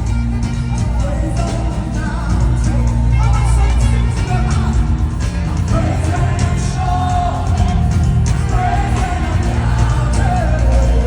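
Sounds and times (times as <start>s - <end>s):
heavy bass: 0.0s - 11.0s
worship music through loudspeakers: 0.0s - 11.0s.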